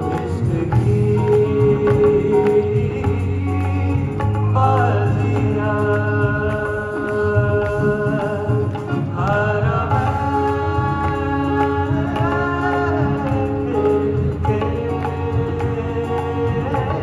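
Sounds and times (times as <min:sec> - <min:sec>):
acoustic guitar: 0:00.0 - 0:17.0
group of singers: 0:00.0 - 0:17.0
keyboard: 0:00.0 - 0:17.0
tabla: 0:00.0 - 0:17.0.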